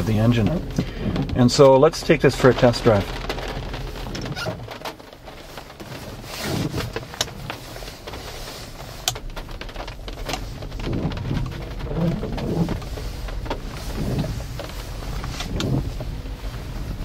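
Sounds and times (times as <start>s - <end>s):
tyre and road rumble: 0.0s - 17.0s.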